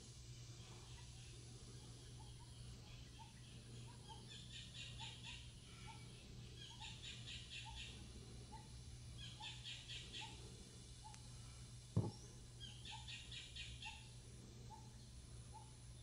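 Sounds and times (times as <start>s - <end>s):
low steady hum: 0.0s - 16.0s
birds chirping and trilling: 0.2s - 16.0s.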